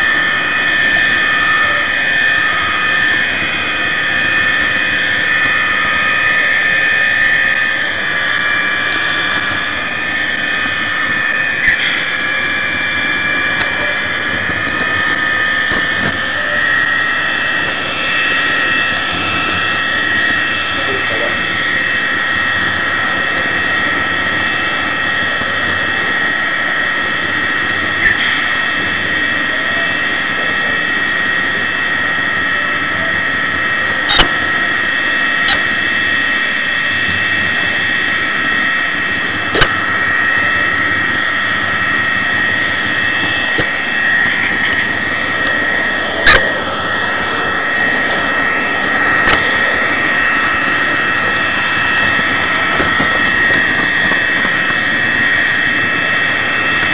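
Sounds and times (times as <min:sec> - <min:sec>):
model locomotive engine sound: 0:00.0 - 0:56.9
running gear whine: 0:00.0 - 0:56.9.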